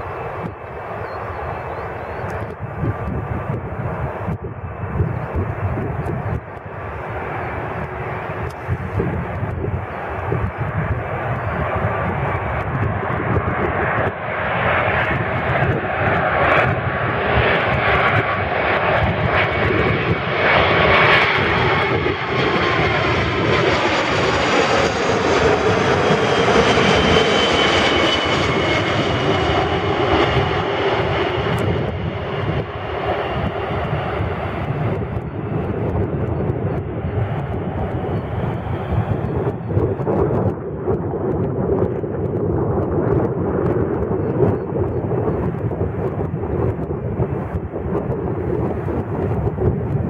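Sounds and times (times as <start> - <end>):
jet airliner rumble: 0.0 - 50.0
jet engine whine falling in pitch: 0.0 - 50.0.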